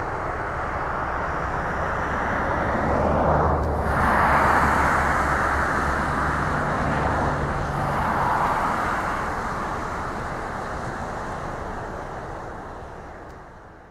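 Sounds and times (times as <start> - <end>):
jet engines roaring: 0.0 - 13.6.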